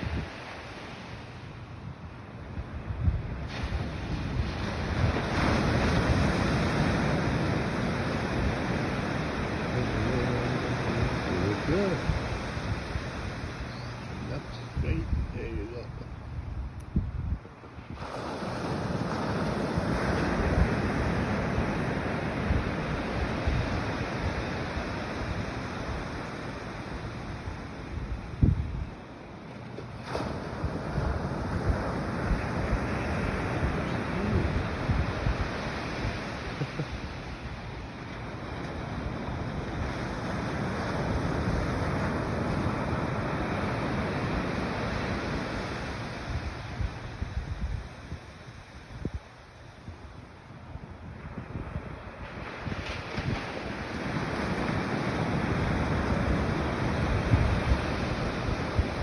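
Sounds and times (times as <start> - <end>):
wind buffeting microphone: 0.0 - 0.7, 1.7 - 29.2, 29.9 - 59.0
ocean surf: 0.0 - 59.0.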